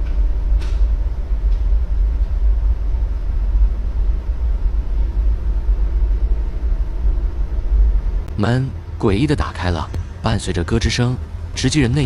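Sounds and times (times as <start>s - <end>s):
steady deep rumble: 0.0s - 12.0s.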